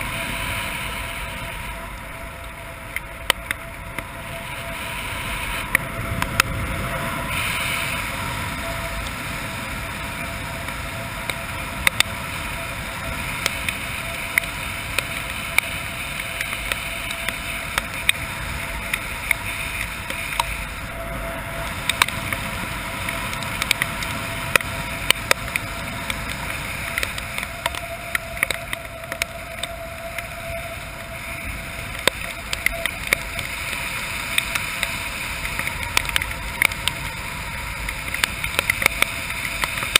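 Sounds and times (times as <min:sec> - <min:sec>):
raindrops ticking on camera: 0:00.0 - 0:39.9
air rushing: 0:03.6 - 0:36.5.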